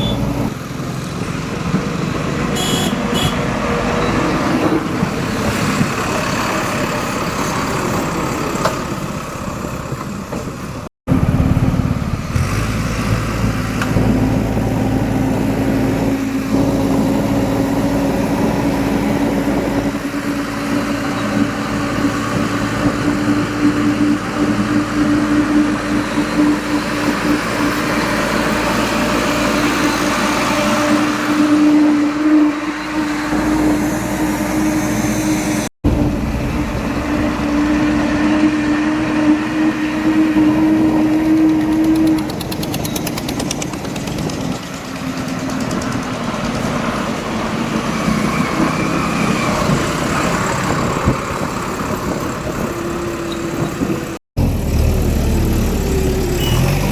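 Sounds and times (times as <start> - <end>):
heavy diesel engine running: 3.8 - 56.9.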